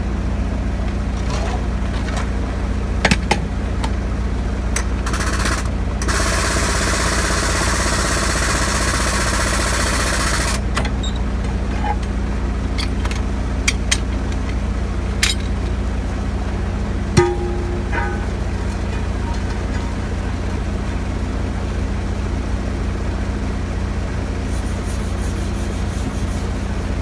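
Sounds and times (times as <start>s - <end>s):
diesel engine idling: 0.0s - 24.8s.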